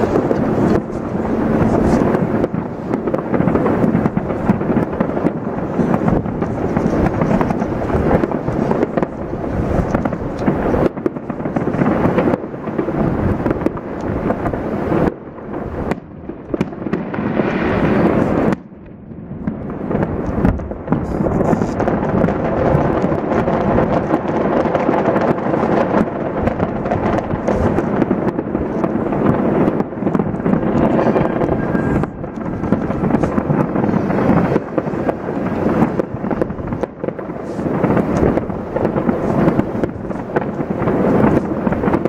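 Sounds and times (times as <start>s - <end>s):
fireworks booms and crackles: 0.0s - 42.0s.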